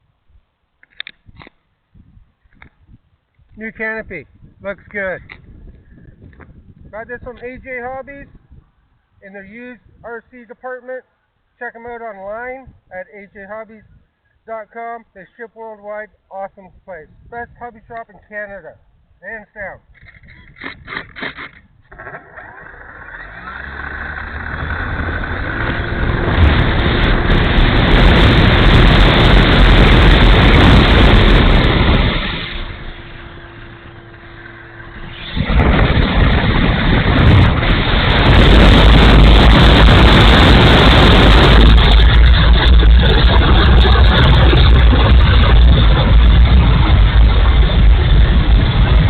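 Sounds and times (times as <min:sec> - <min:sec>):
strong wind buffeting microphone: 0:01.1 - 0:10.4, 0:12.6 - 0:12.9, 0:13.8 - 0:14.2, 0:16.6 - 0:49.0.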